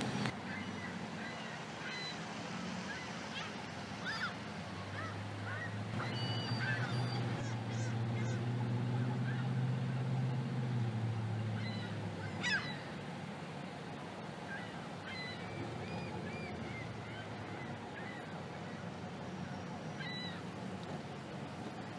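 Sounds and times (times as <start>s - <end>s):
gulls calling: 0.0s - 21.9s
low engine hum: 0.0s - 21.9s.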